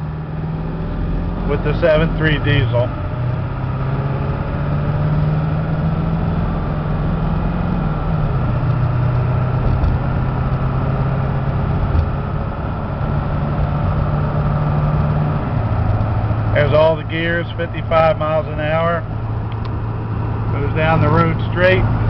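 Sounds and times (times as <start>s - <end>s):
diesel truck engine accelerating: 0.0s - 22.0s.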